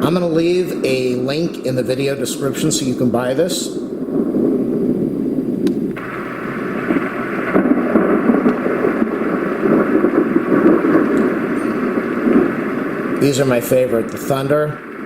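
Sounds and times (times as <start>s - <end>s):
bright rain hiss: 0.0s - 15.0s
low rain and thunder noise: 0.0s - 15.0s.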